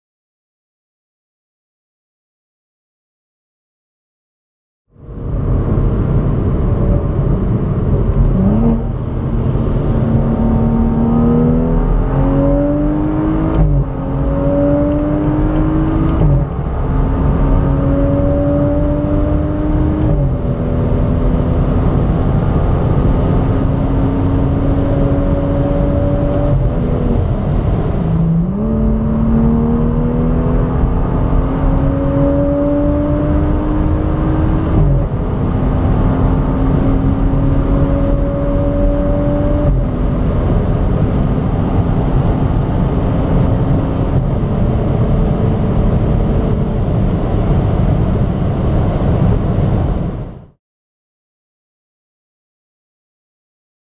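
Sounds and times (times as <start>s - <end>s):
car engine accelerating: 5.0s - 50.5s.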